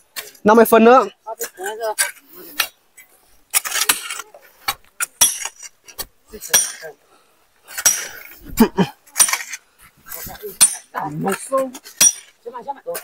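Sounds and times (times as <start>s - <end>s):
metal tools striking rocky soil: 1.4s - 7.0s, 7.7s - 13.0s.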